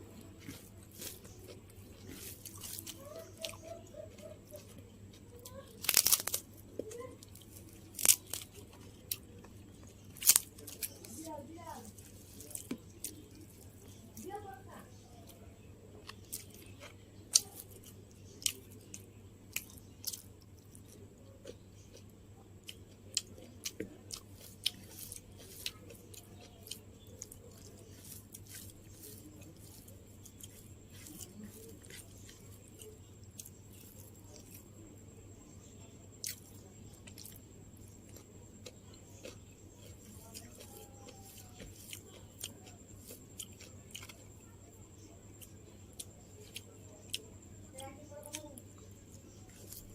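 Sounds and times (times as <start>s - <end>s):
chewing crunchy food: 0.0s - 49.9s
steady low hum: 0.0s - 49.9s.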